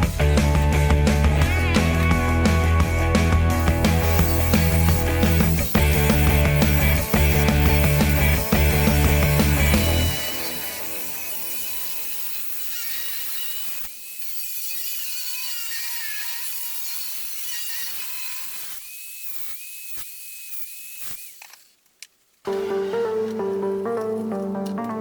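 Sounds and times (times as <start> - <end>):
power tool motor whining: 0.0 - 21.7.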